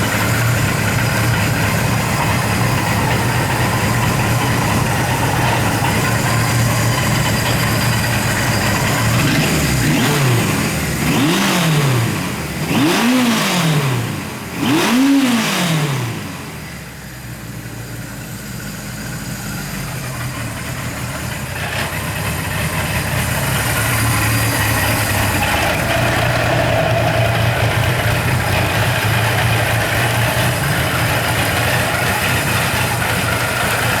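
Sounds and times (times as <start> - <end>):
motorcycle engine idling and revving: 0.0 - 34.0.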